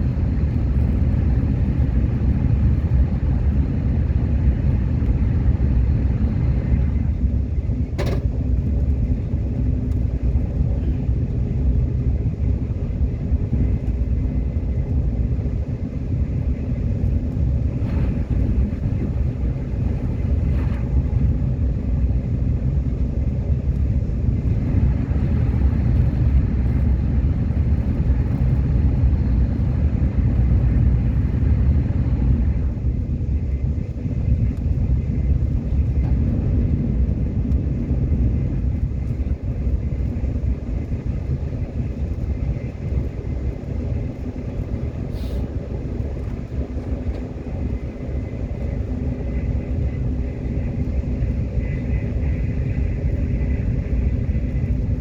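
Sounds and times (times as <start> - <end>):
subway train rumbling on track: 0.0 - 55.0.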